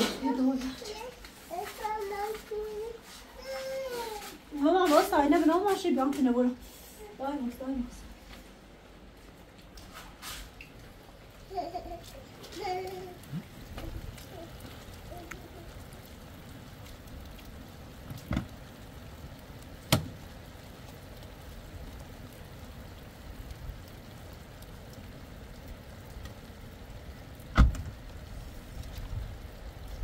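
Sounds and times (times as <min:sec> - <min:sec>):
rain: 0:00.0 - 0:30.0
wind: 0:00.0 - 0:30.0.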